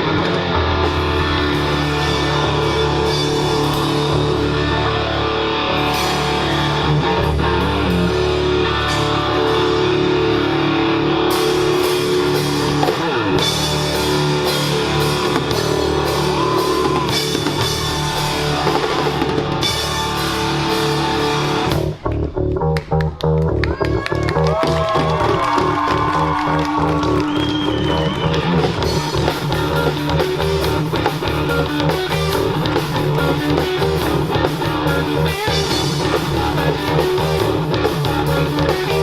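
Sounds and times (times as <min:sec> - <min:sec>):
rock band playing loudly: 0:00.0 - 0:39.0.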